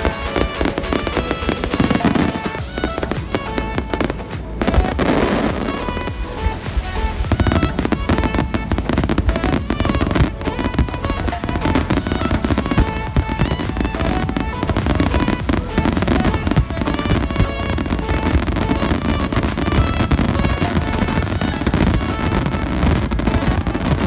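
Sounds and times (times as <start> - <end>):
fireworks banging and crackling: 0.0 - 24.0
music playing: 0.0 - 24.0.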